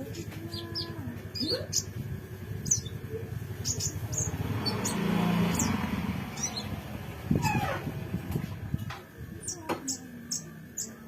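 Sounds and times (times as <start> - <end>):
songbird chirps: 0.0 - 7.7, 9.3 - 11.0.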